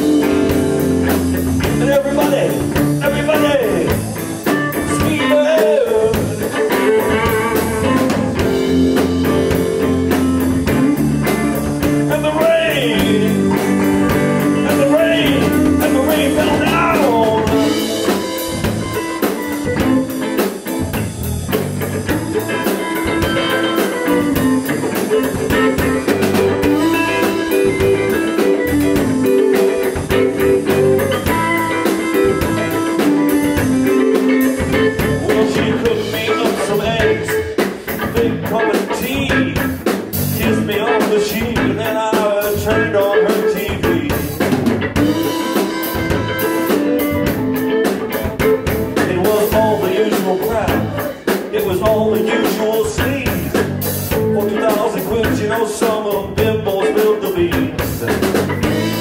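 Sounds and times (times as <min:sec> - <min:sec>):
blues-rock band playing: 0:00.0 - 0:59.0
sliding lead guitar: 0:00.0 - 0:59.0.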